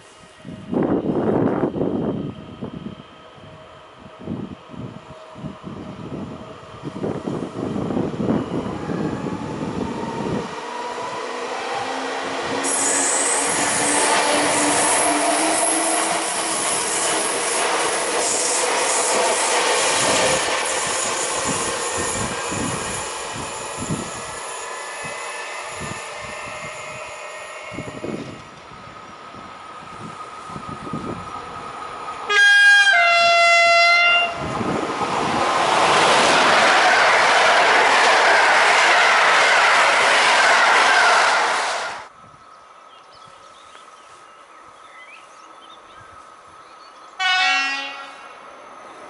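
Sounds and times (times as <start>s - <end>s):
train motor whine: 0.1s - 42.0s.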